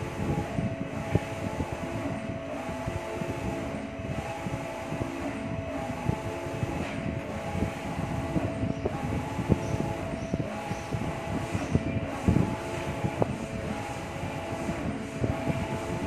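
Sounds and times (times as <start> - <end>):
machinery humming and rumbling: 0.0 - 16.0.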